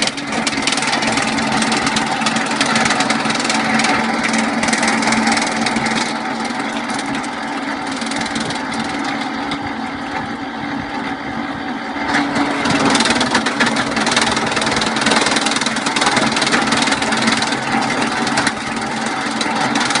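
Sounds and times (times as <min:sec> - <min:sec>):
wood chipper running: 0:00.0 - 0:20.0.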